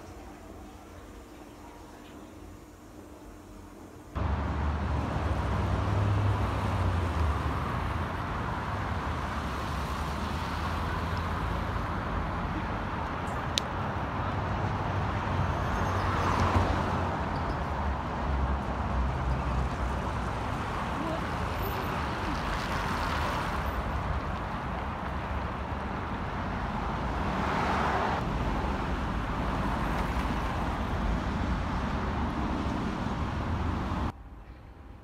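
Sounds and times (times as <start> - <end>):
cars passing: 4.2 - 34.3.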